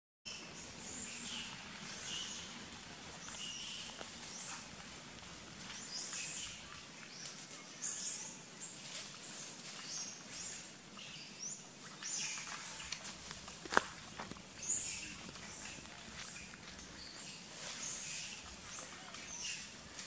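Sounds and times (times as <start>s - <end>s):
soft outdoor background: 0.3s - 20.0s.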